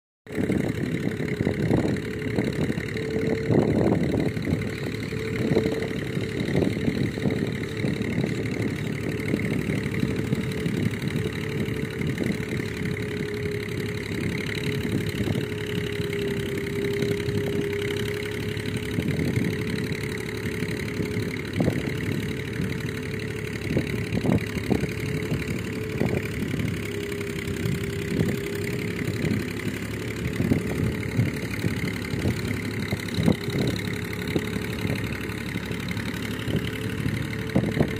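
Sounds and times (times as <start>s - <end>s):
tractor diesel engine running: 0.2s - 37.9s.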